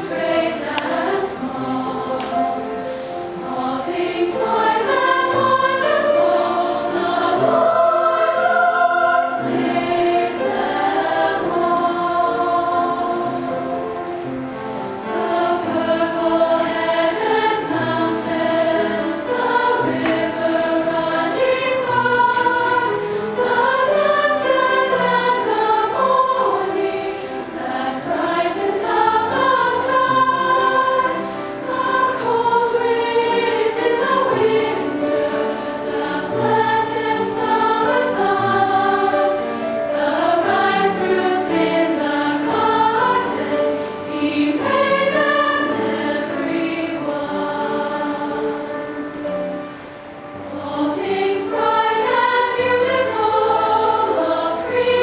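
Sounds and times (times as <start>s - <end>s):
women's chorus singing: 0.0s - 55.0s.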